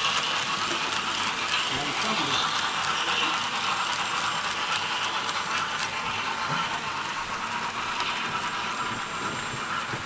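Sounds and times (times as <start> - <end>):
model train wheels rolling: 0.0 - 10.0.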